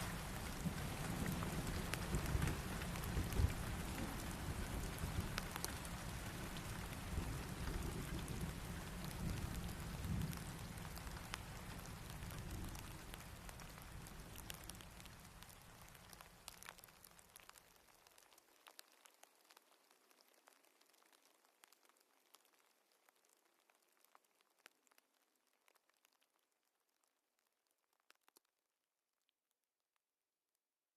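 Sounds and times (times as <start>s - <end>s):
steady rain falling: 0.0s - 28.4s.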